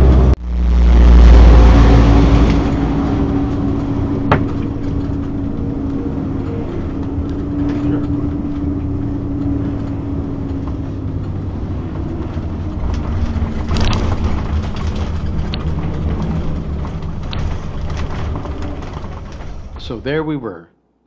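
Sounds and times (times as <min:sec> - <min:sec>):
motorhome road rumble: 0:00.0 - 0:20.4.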